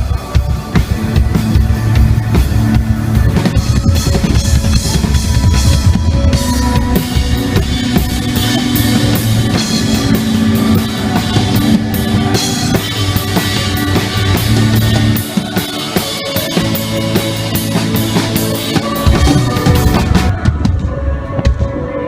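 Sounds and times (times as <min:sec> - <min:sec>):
rock band playing: 0:00.0 - 0:20.8.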